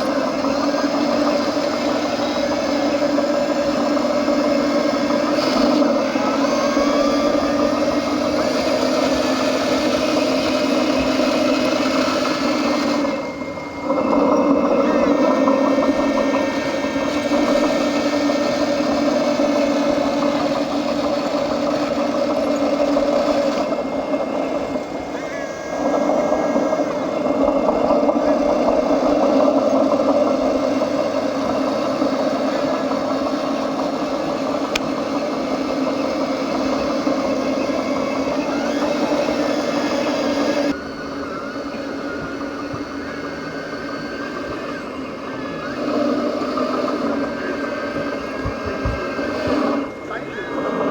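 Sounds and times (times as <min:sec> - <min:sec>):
model motor whining: 0:00.0 - 0:50.9.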